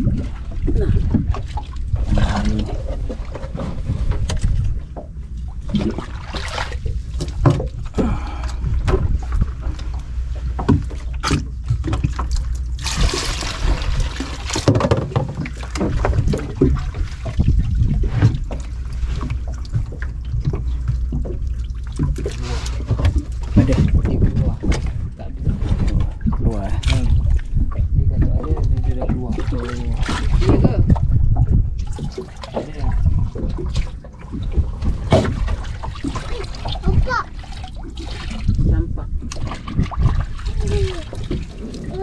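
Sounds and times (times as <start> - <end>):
low rumble: 0.0 - 42.0
water sloshing around a boat: 0.0 - 42.0.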